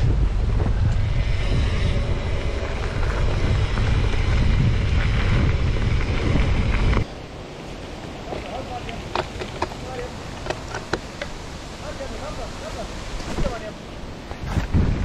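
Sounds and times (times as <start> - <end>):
bike rattling: 0.0 - 15.0
tyres rumbling on dirt trail: 0.0 - 15.0
wind buffeting microphone: 0.0 - 15.0.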